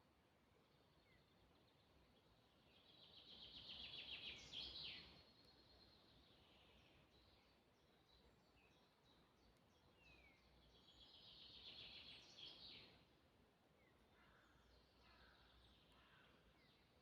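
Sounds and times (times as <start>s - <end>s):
forest birdsong chirps: 0.0s - 17.0s.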